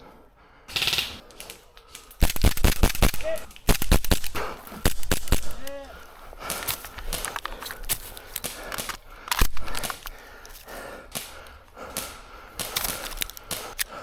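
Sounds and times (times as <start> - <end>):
airsoft guns firing: 0.7 - 1.2, 2.0 - 14.0.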